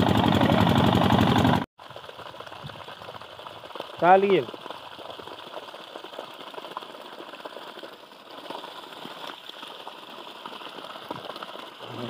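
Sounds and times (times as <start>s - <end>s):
small water splashes: 1.8s - 12.0s
water gushing into puddle: 1.8s - 12.0s.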